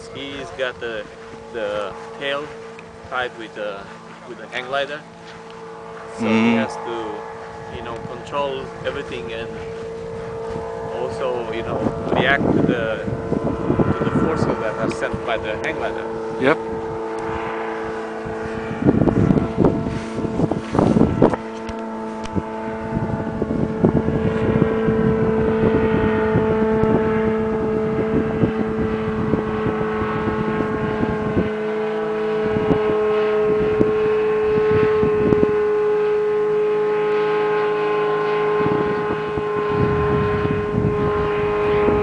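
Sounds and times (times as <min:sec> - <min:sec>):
plane engine and propeller droning: 0:00.0 - 0:42.0
wind buffeting microphone: 0:00.0 - 0:42.0.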